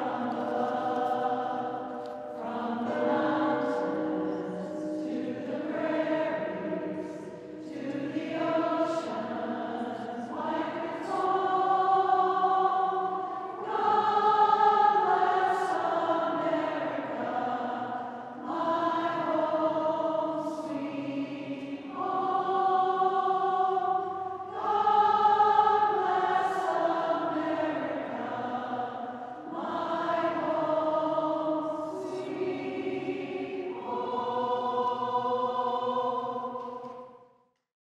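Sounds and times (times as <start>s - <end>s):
women's choir singing: 0.0s - 37.2s.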